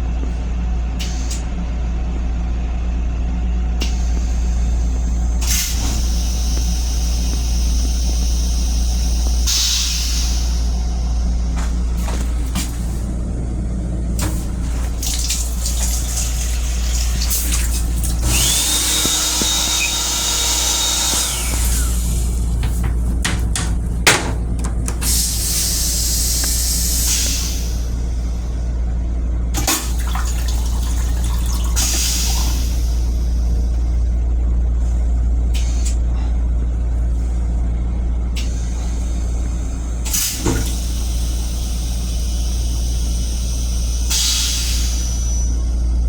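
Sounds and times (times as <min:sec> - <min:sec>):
railcar low hum: 0:00.0 - 0:46.0.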